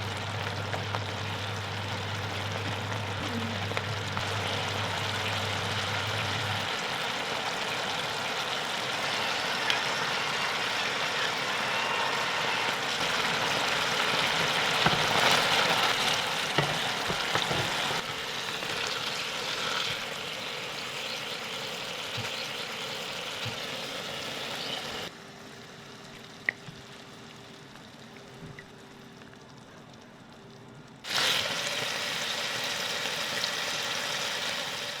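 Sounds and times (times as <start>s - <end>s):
food sizzling in pan: 0.0s - 35.0s.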